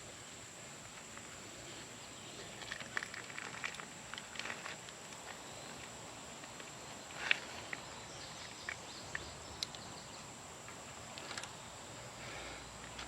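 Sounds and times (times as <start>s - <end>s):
high insect-like hum: 0.0s - 13.0s.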